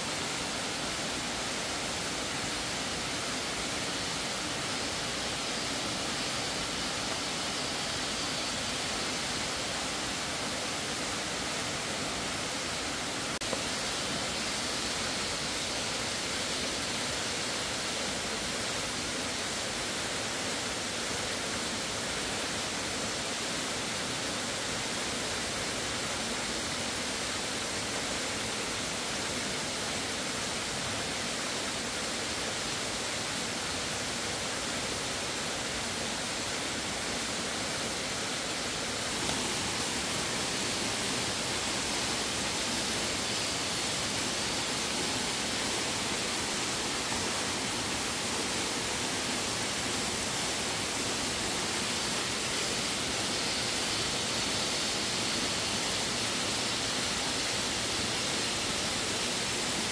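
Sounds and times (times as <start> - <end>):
water rushing hiss: 0.0 - 59.9.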